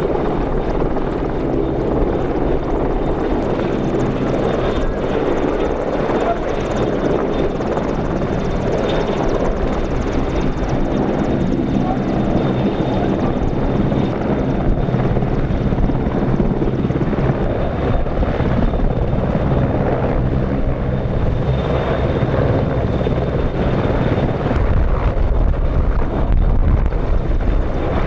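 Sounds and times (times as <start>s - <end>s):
helicopter hovering: 0.0s - 28.0s.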